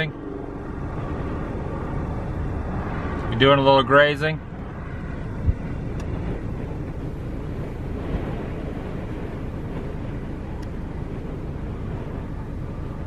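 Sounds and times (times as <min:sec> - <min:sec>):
freeway traffic roar: 0:00.0 - 0:13.0
wind on microphone: 0:00.0 - 0:13.0.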